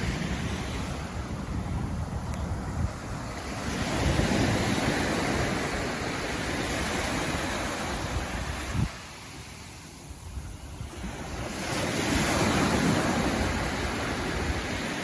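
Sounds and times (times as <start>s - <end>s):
waves washing onto beach: 0.0s - 15.0s
wind buffeting microphone: 0.0s - 15.0s.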